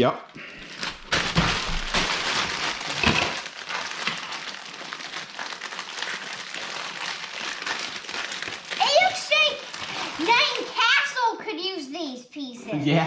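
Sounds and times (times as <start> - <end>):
plastic bags crinkling: 0.3 - 11.1.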